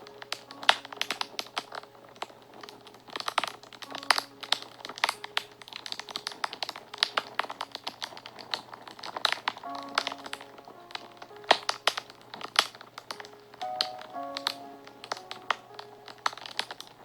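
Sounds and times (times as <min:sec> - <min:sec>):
fire crackling: 0:00.0 - 0:17.0
soft background music: 0:00.0 - 0:17.0.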